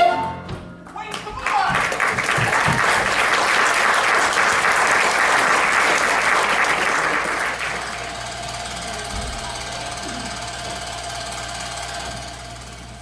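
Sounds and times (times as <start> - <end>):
audience applauding: 0.8 - 12.1.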